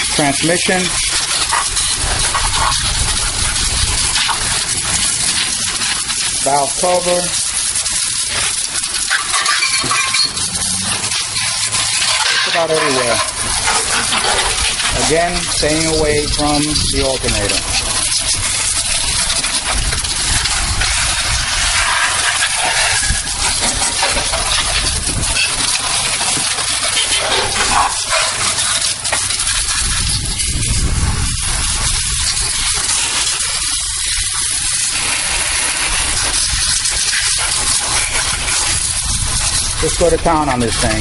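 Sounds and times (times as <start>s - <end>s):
hose spray hissing and splattering: 0.0s - 41.0s.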